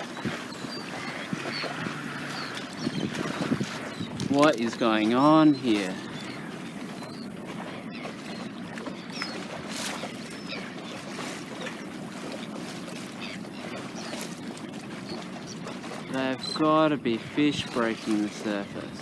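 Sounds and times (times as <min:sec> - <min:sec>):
water rushing along boat hull: 0:00.0 - 0:19.0.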